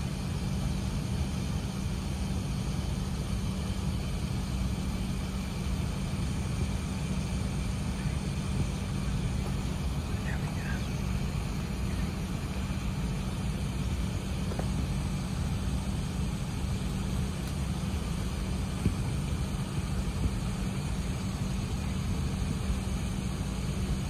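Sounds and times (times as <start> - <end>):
aircraft engine low rumble: 0.0 - 24.0.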